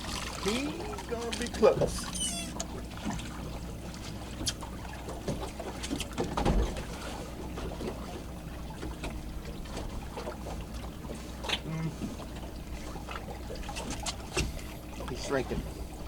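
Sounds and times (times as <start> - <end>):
water sloshing against boat hull: 0.0 - 16.0.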